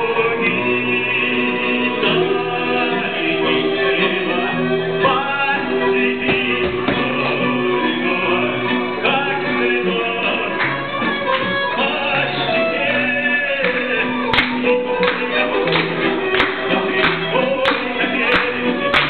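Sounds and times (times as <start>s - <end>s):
stringed instruments playing: 0.0s - 19.0s.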